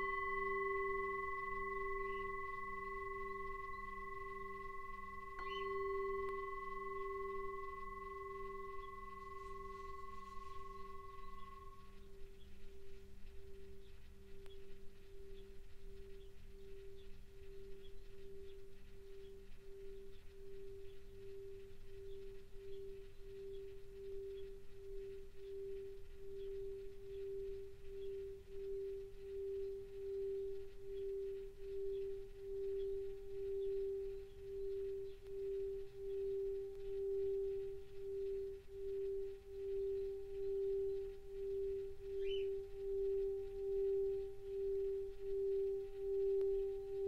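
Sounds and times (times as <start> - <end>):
singing bowl ringing: 0.0 - 12.2, 16.1 - 47.0
faint higher bowl tone: 0.0 - 47.0.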